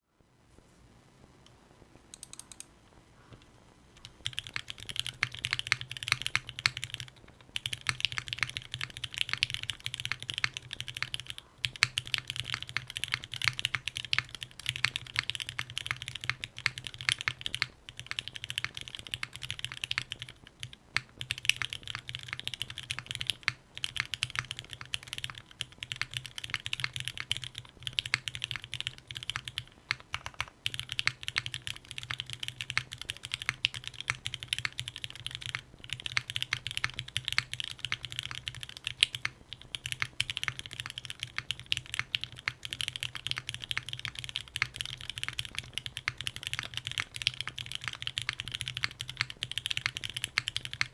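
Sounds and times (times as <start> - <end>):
fast mechanical keyboard typing: 2.1 - 2.7, 4.0 - 50.9.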